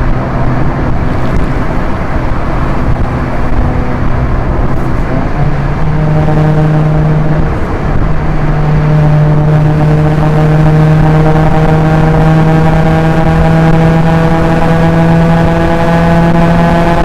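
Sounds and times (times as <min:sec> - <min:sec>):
car engine droning: 0:00.0 - 0:17.0
road rumble: 0:00.0 - 0:17.0.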